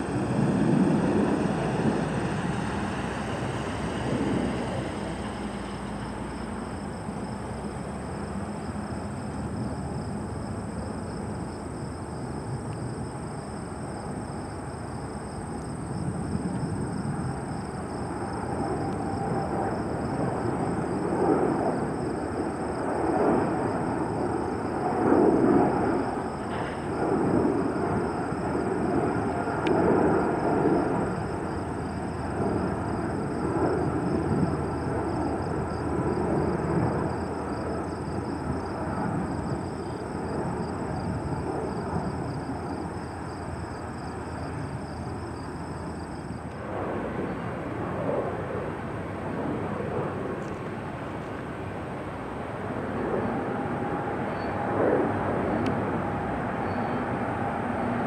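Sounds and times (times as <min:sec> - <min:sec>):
jet engine rumble: 0:00.0 - 0:58.0.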